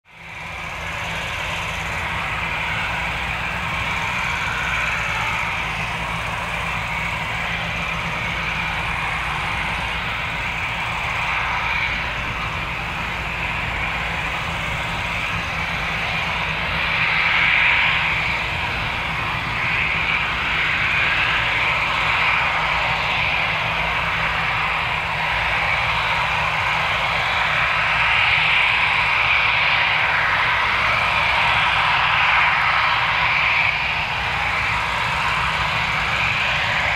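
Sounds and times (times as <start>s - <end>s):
jet engines whining at low power: 0.0s - 36.9s.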